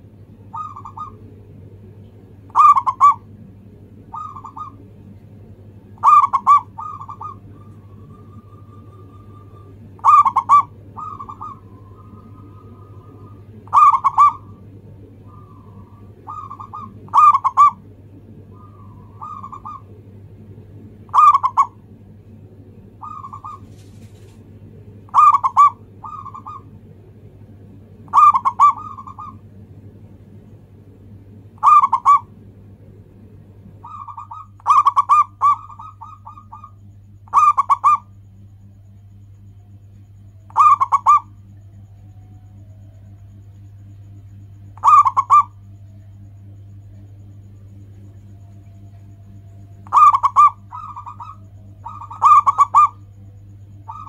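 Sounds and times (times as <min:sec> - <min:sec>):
dove cooing: 0:00.0 - 0:01.7, 0:02.4 - 0:29.6, 0:31.5 - 0:32.4, 0:33.7 - 0:38.3, 0:39.5 - 0:54.0
low background rumble: 0:00.0 - 0:54.0
steady low hum: 0:00.0 - 0:54.0.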